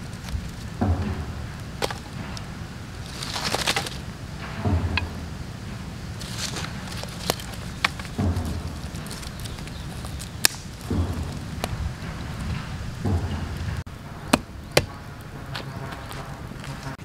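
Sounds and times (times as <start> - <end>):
dry sticks knocking: 0.0 - 16.1
campfire crackling and popping: 0.0 - 17.0.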